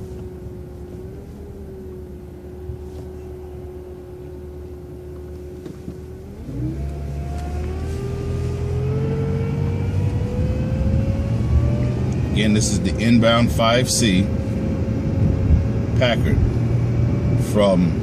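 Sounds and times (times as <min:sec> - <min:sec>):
bus engine rumble: 0:00.0 - 0:18.0
bus whine: 0:00.0 - 0:18.0.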